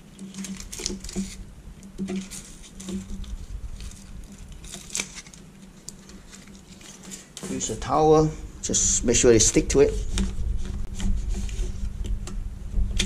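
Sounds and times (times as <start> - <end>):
foil tape crinkling and rustling: 0.0 - 8.3, 9.1 - 13.0
low steady hum: 0.0 - 13.0.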